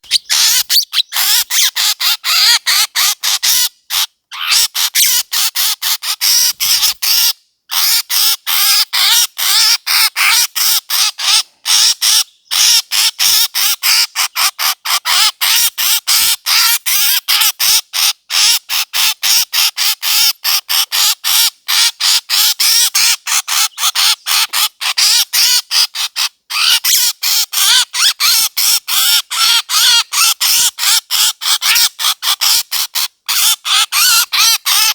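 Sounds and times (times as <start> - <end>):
short harsh bird calls: 0.0 - 17.5, 19.7 - 34.9.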